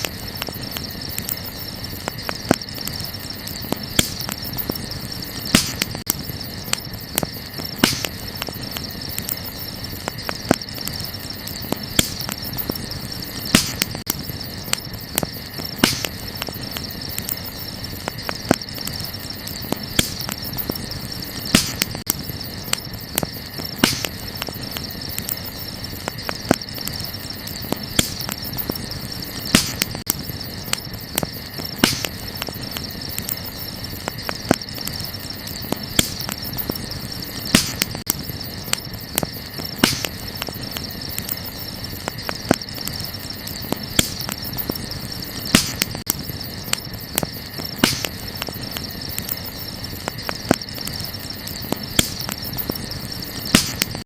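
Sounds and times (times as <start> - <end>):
night insects chorus: 0.0 - 54.0
wood fire crackling and popping: 0.0 - 54.0.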